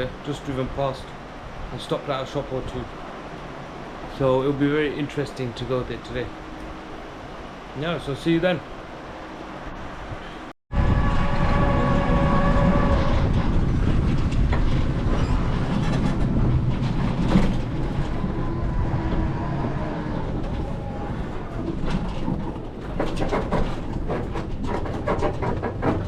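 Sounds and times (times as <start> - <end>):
vehicle rumble and rattle: 0.0 - 26.0.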